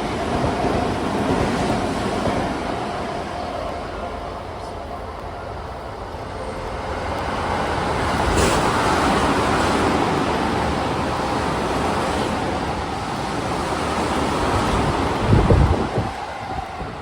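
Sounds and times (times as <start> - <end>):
trains passing on rails: 0.0 - 17.0.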